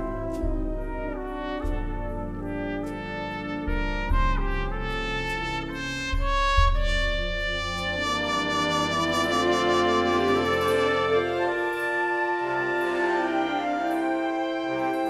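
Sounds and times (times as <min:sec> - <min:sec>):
solo trumpet melody: 0:00.0 - 0:15.0
wind band accompaniment: 0:00.0 - 0:15.0.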